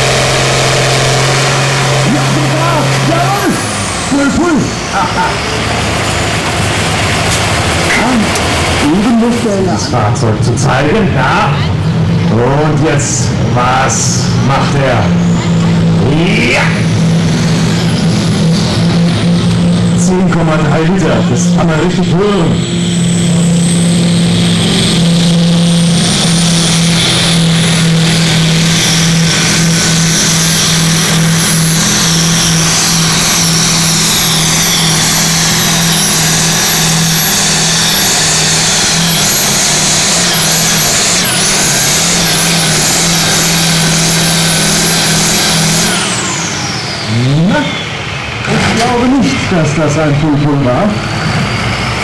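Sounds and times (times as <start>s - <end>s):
tractor diesel engine drone: 0.0s - 52.0s.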